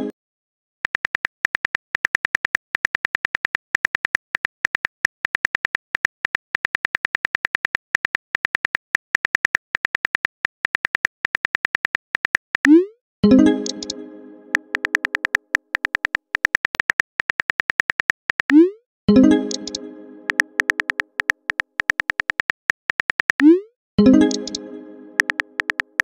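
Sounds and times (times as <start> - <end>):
phone keyboard typing clicks: 0.9 - 12.8, 13.6 - 18.7, 19.5 - 23.6, 24.2 - 26.0.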